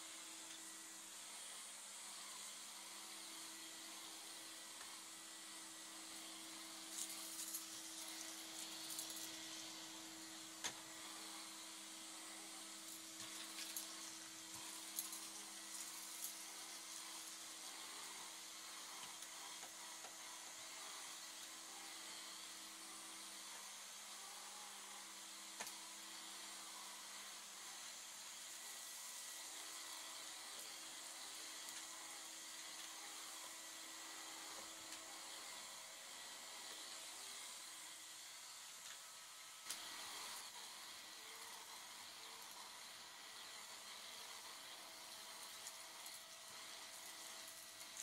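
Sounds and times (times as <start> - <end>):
vacuum cleaner running on carpet: 0.0 - 48.0.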